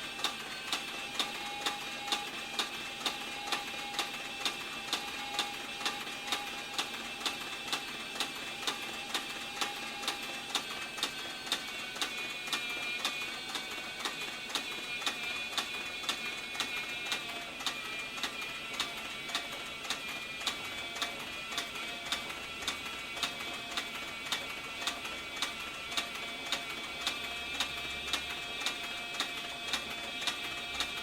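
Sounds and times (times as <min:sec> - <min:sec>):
sewing machine motor whine: 0:00.0 - 0:31.0.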